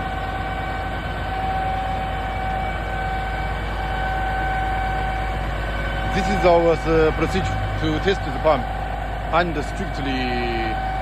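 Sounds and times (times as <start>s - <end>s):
concrete pump truck rumbling: 0.0s - 11.0s
high whine: 0.0s - 11.0s.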